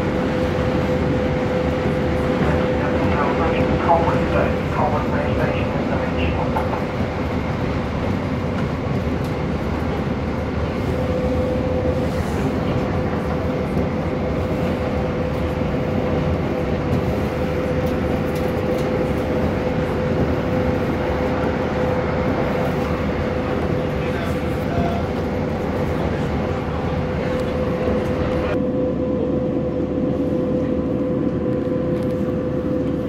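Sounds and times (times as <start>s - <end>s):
constant whine: 0.0s - 33.0s
train running rumble: 0.0s - 33.0s.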